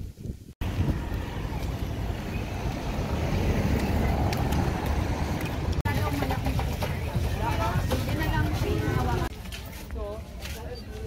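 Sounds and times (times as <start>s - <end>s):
road traffic rumble: 0.6s - 11.0s.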